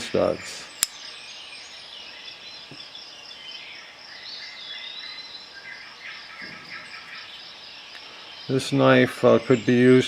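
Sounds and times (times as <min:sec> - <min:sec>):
birds chirping: 0:00.0 - 0:10.0
insects trilling: 0:00.0 - 0:10.0.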